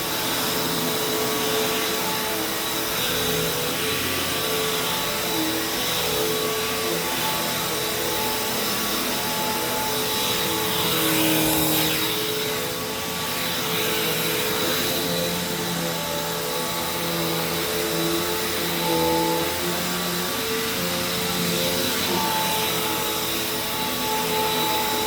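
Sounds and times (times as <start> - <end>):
vacuum cleaner running on carpet: 0.0 - 25.0.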